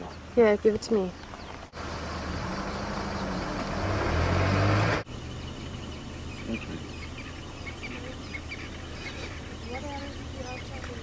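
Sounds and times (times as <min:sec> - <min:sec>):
bird chirps: 0:00.0 - 0:04.2, 0:05.1 - 0:11.0
car engine running: 0:00.1 - 0:11.0.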